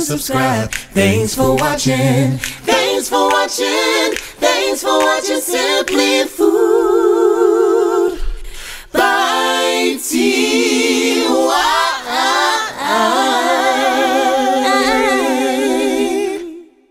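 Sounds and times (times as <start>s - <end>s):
voices singing in harmony: 0.0s - 16.9s.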